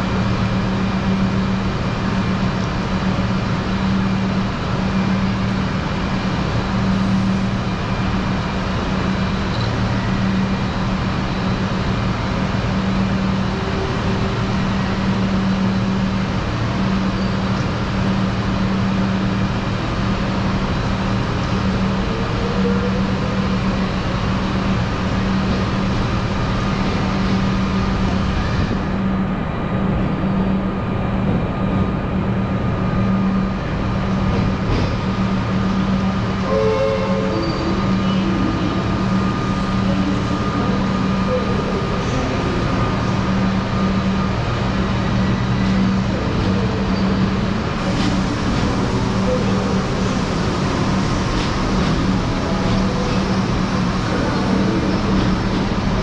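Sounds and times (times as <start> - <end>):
constant background roar: 0.0 - 56.0.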